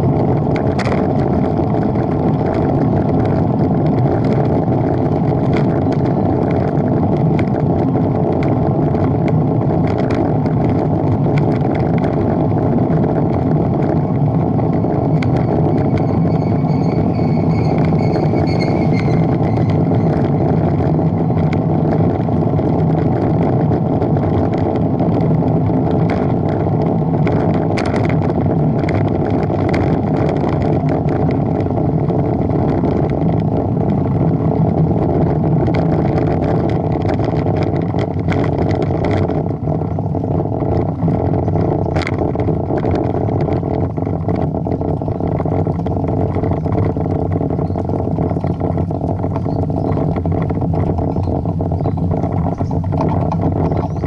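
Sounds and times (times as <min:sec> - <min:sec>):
faint clicks and rattles: 0:00.0 - 0:54.0
road rumble: 0:00.0 - 0:54.0
wind on microphone: 0:00.0 - 0:54.0.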